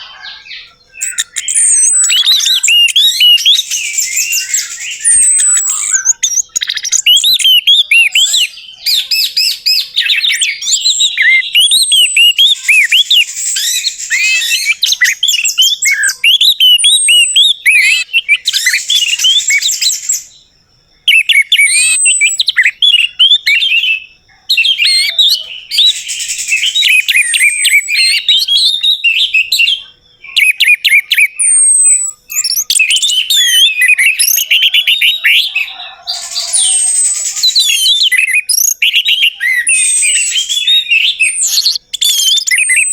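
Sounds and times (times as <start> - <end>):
bird singing chirps and whistles: 0.0 - 42.9.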